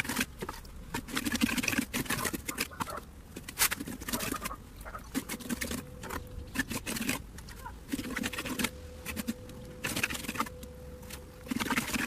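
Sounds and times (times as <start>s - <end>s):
trowel scraping wet concrete: 0.0s - 12.0s.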